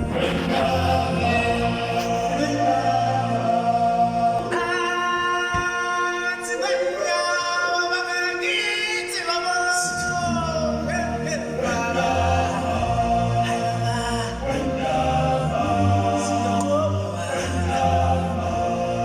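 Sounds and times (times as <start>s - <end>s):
choir singing long held notes: 0.0s - 9.3s, 10.0s - 19.0s.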